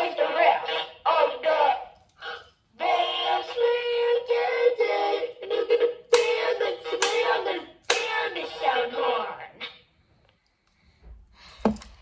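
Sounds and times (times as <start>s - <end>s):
electronic song from toy speaker: 0.0s - 9.8s.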